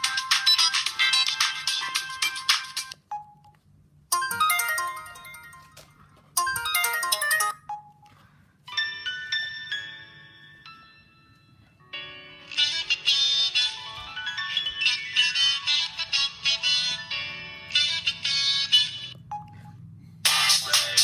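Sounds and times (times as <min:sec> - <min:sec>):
polyphonic ringtone melodies: 0:00.0 - 0:21.0.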